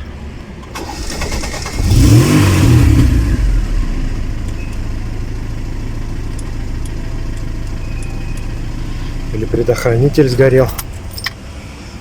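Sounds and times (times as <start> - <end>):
car engine revving and idling: 0.7 - 11.1.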